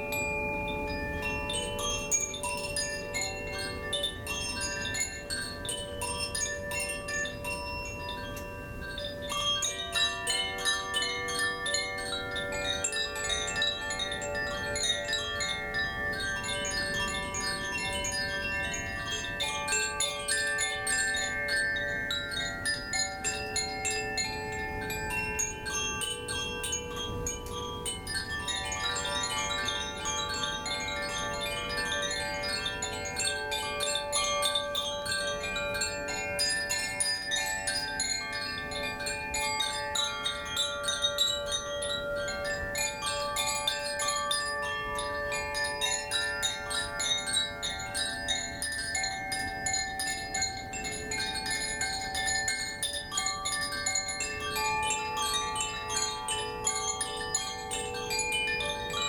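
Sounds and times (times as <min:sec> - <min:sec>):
wind chimes ringing: 0:00.0 - 0:59.0.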